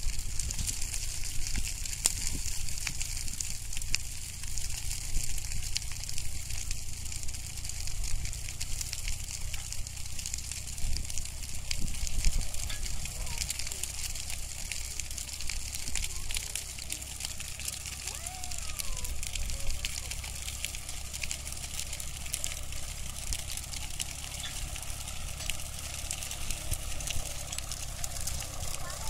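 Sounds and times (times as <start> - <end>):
branches crackling in fire: 0.0 - 29.0
tractor engine running: 0.0 - 29.0.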